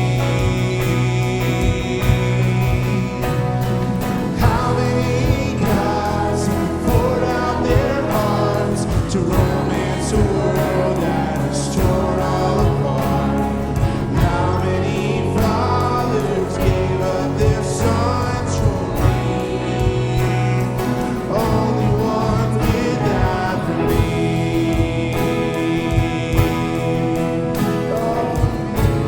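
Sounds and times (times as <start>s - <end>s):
drum hits: 0.0s - 29.0s
live worship band playing: 0.0s - 29.0s
voices singing: 0.0s - 29.0s.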